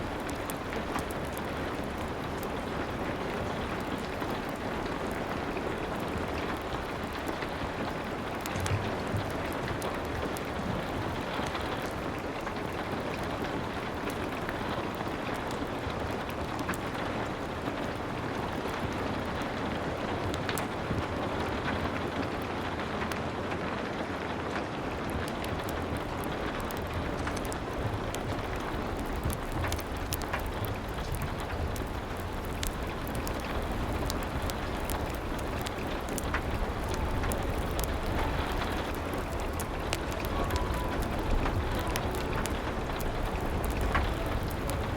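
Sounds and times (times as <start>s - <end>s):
heavy rain patter: 0.0s - 44.9s.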